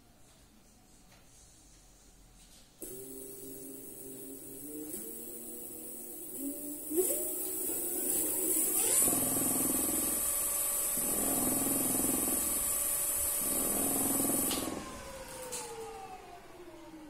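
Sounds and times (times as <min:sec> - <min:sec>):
electric motor whine: 0:02.8 - 0:17.0.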